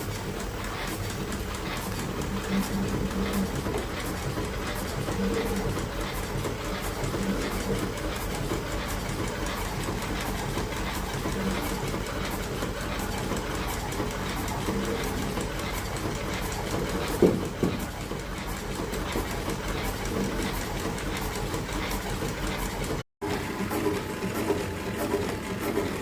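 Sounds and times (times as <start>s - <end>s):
fast even mechanical clicking: 0.0s - 26.0s
filling machine running: 0.0s - 26.0s.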